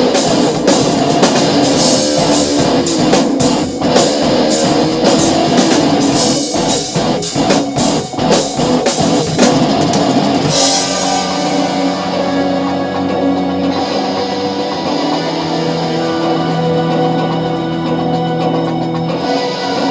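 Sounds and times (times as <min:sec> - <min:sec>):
distorted guitar rock music: 0:00.0 - 0:19.9
rock drum kit played hard: 0:00.0 - 0:19.9.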